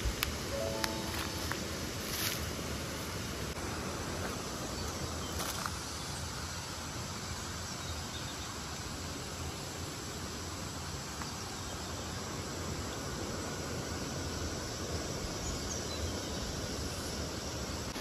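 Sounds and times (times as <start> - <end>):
insects hissing: 0.0 - 18.0.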